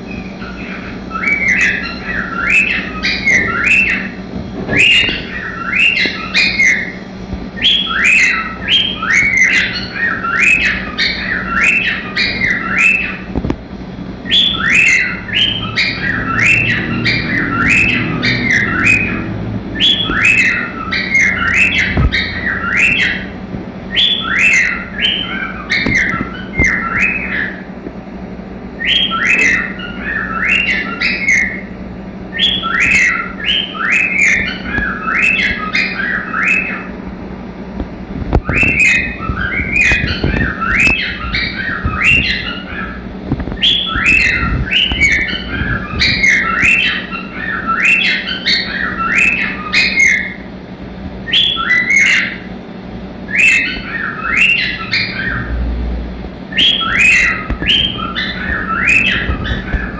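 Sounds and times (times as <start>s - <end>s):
cockatiel chirping: 0.1s - 7.0s, 7.6s - 13.3s, 14.2s - 19.2s, 19.8s - 27.7s, 28.8s - 31.7s, 32.3s - 36.9s, 38.4s - 43.0s, 43.6s - 50.5s, 51.2s - 52.5s, 53.3s - 55.5s, 56.5s - 59.9s.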